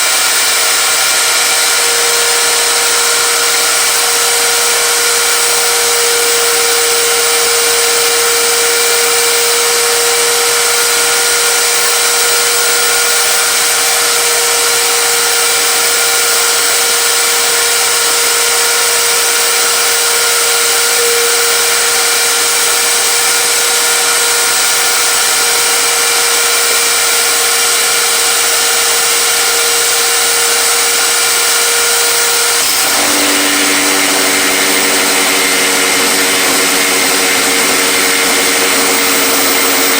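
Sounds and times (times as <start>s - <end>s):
electric power tool running: 0.0s - 39.9s.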